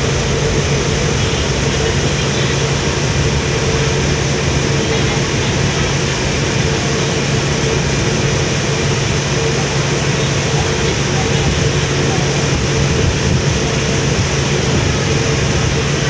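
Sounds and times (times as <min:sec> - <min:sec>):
propeller wash rushing: 0:00.0 - 0:16.0
ship diesel engines droning: 0:00.0 - 0:16.0.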